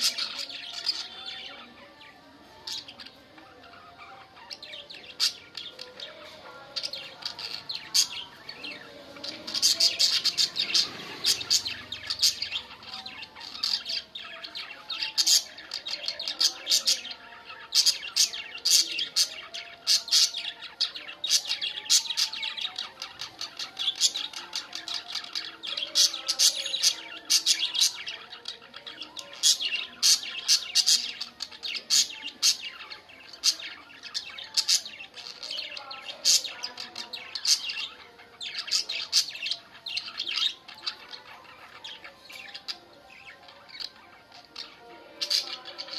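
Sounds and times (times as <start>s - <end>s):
soft chattering warble: 0.0s - 45.9s.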